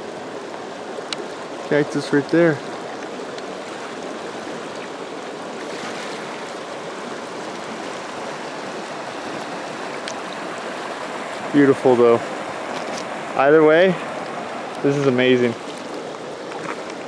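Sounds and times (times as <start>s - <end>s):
river rapids rushing over rocks: 0.0s - 17.0s.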